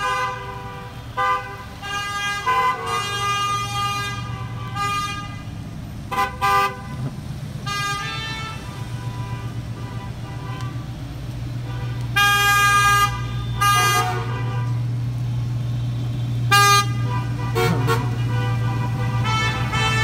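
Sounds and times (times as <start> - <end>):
car horns honking: 0.0 - 20.0
low hum of engines: 0.0 - 20.0.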